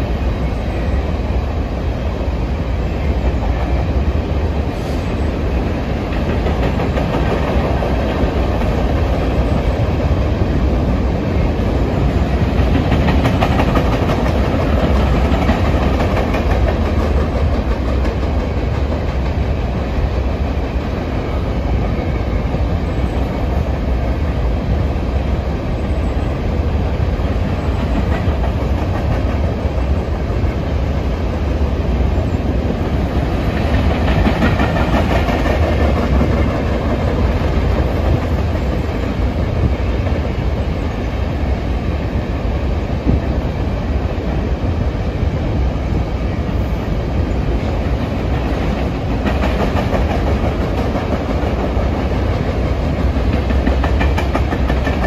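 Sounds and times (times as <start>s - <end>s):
steel wheels rumbling on rail: 0.0s - 55.0s.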